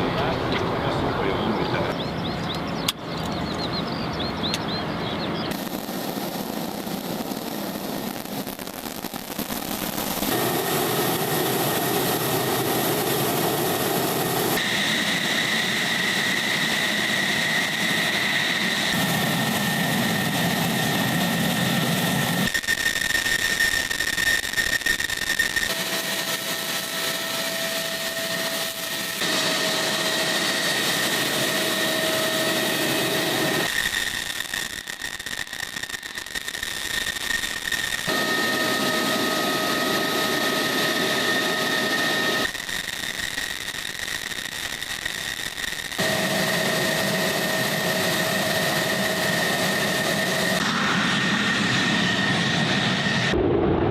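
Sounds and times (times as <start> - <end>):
jet engine whining: 0.0 - 53.9.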